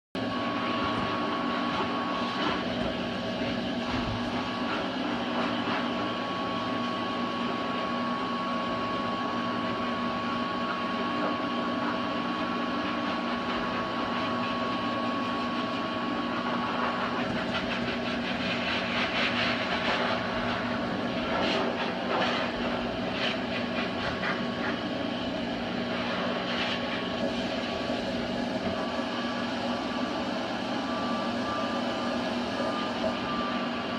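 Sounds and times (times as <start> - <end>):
electric blower humming: 0.2 - 33.9.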